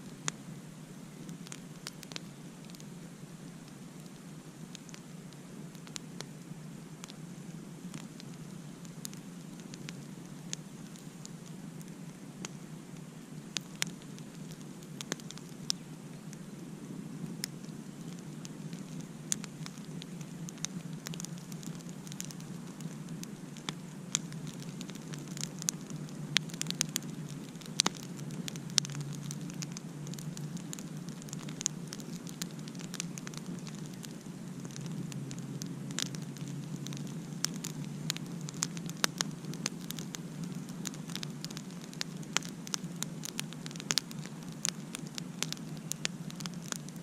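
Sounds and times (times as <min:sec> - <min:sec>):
campfire crackling: 0:00.0 - 0:47.0.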